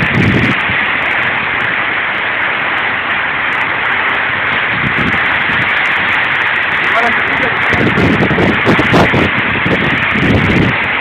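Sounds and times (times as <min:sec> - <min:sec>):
hail and rain pelting down: 0:00.0 - 0:11.0.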